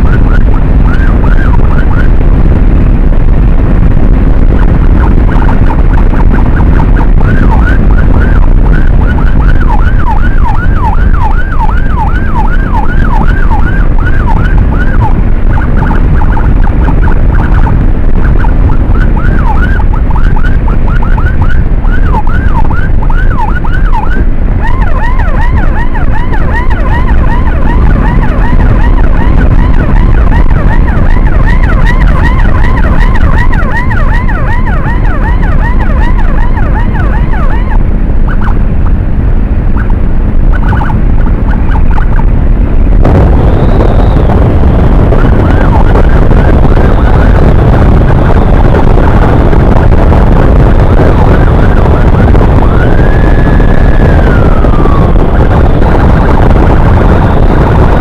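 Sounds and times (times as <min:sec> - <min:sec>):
electronic siren yelping: 0:00.0 - 0:58.0
motorcycle engine and wind rumble: 0:00.0 - 0:58.0.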